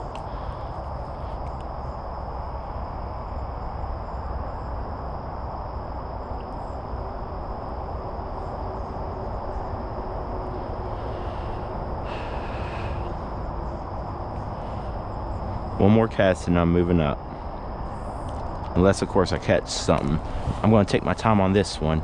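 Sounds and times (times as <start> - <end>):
insects chirring: 0.0 - 22.0
low rushing background noise: 0.0 - 22.0.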